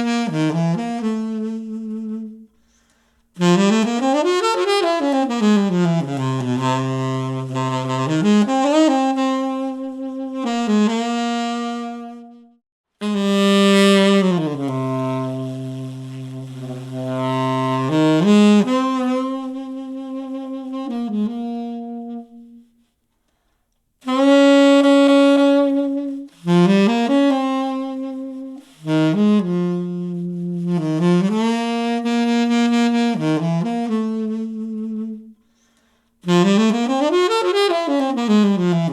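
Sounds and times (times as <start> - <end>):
saxophone melody through loudspeaker: 0.0 - 2.5, 3.4 - 22.9, 24.0 - 35.4, 36.2 - 38.9.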